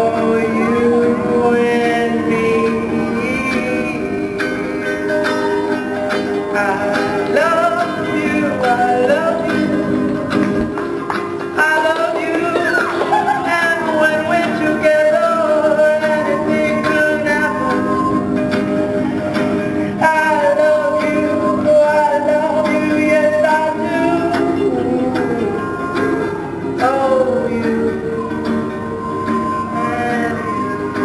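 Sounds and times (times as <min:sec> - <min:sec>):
person singing: 0:00.0 - 0:10.8, 0:11.5 - 0:31.0
guitar: 0:00.0 - 0:31.0.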